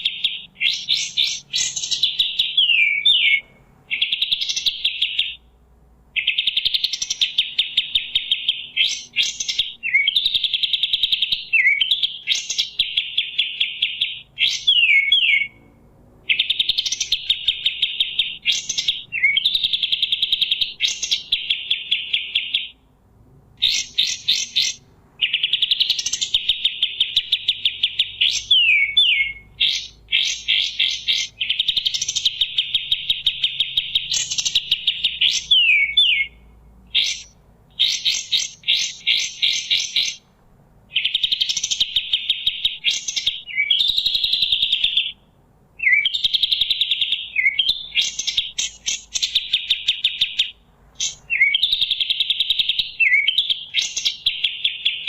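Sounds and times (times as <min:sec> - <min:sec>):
songbird trilling and whistling: 0:00.0 - 0:05.5, 0:06.2 - 0:22.8, 0:23.6 - 0:40.3, 0:40.9 - 0:55.0.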